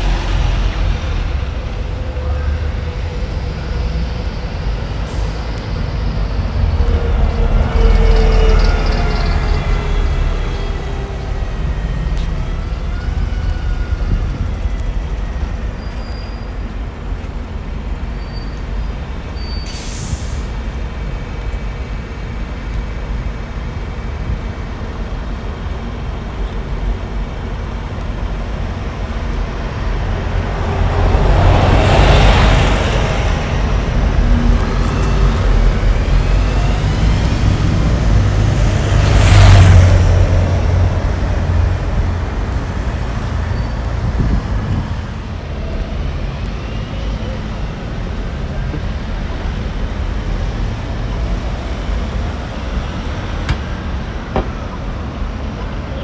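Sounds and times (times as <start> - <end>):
bus passing close by: 0.0 - 56.0
traffic rumble: 0.0 - 56.0.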